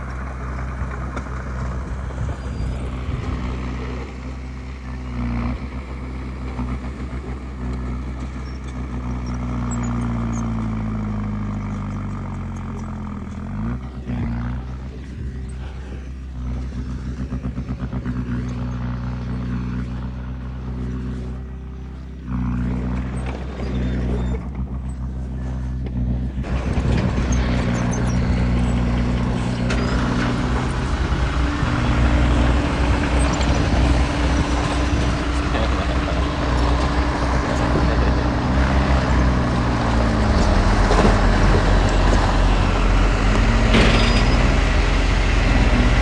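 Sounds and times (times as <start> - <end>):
heavy diesel engines under load: 0.0 - 46.0.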